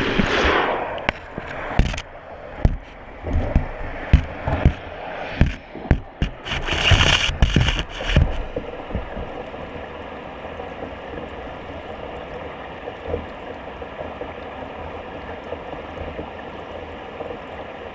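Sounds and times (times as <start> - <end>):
underwater splashing and bubbling: 0.0 - 17.9.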